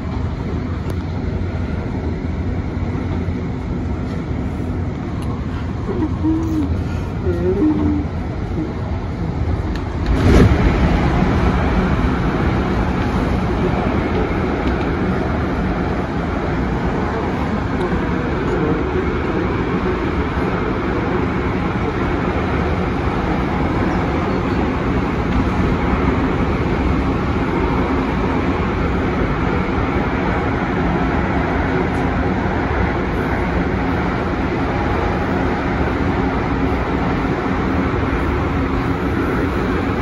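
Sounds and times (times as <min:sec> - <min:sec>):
faint hum: 0:00.0 - 0:40.0
train wheels rumbling on rail: 0:00.0 - 0:40.0.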